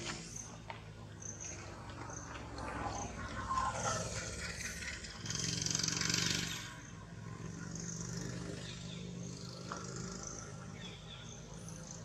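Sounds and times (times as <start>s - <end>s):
vehicle engine passing: 1.6s - 11.8s.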